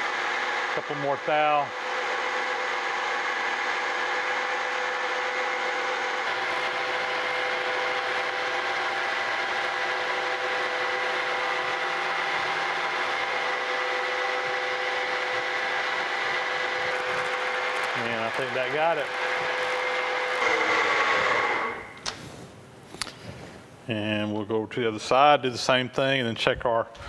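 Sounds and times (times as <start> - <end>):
milling machine whine: 0.0 - 22.1.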